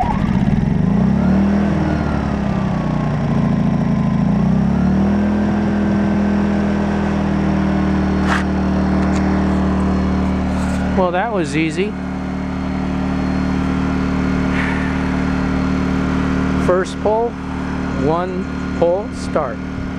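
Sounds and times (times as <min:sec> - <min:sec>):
generator engine running: 0:00.0 - 0:19.9.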